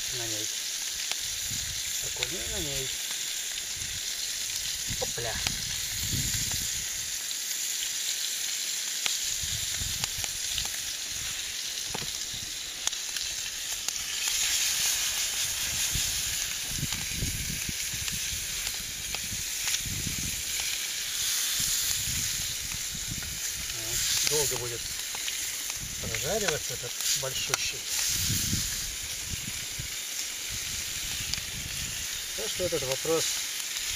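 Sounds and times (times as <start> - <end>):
fish frying in oil: 0.0 - 33.9.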